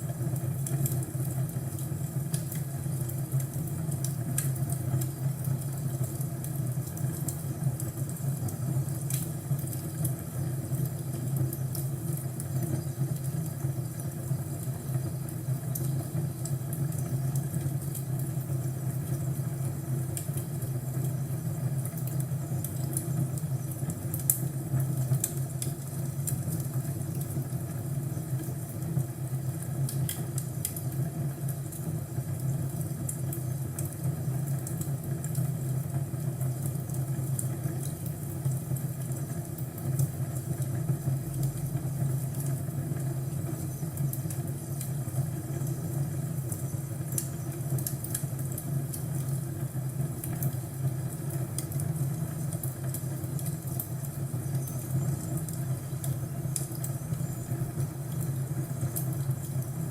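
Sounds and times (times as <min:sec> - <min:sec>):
fire crackles and pops: 0:00.0 - 0:59.9.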